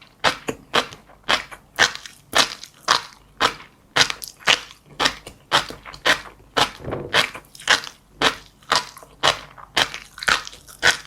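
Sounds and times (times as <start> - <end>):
chewing crunchy seeds: 0.0 - 11.0.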